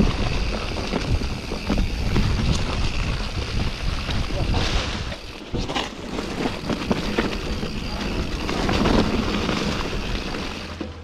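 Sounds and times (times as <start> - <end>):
bike knocking and rattling: 0.0 - 11.0
wind and tyre noise: 0.0 - 11.0.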